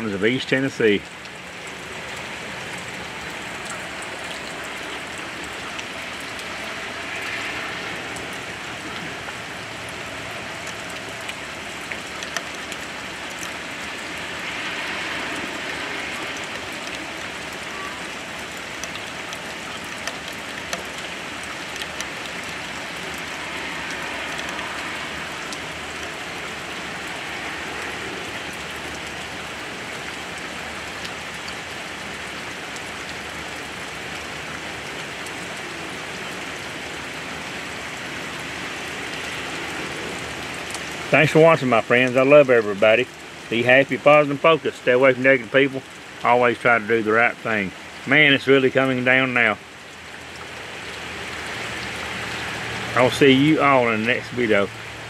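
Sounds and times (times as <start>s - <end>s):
heavy rain on grass and pavement: 0.0s - 55.0s
raindrops ticking nearby: 0.0s - 55.0s.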